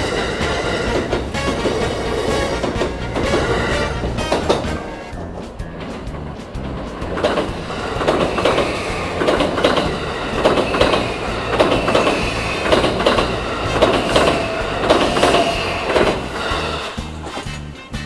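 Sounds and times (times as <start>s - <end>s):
train wheels clattering over joints: 0.0s - 17.7s.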